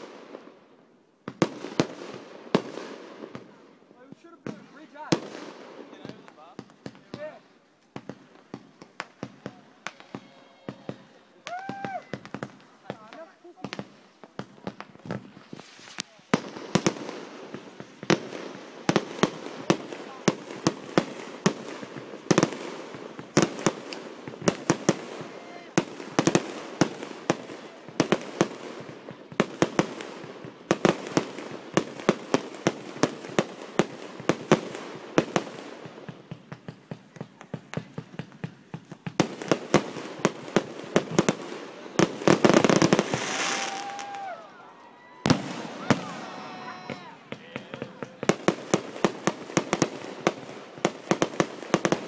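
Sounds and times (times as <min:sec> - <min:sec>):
fireworks pops and bangs: 0:00.0 - 0:00.6, 0:01.2 - 0:52.0.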